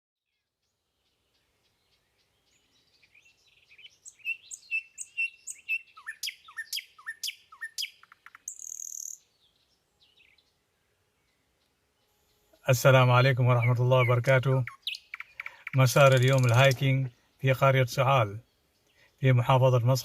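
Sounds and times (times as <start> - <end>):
birds chirping and singing: 0.3 - 20.0.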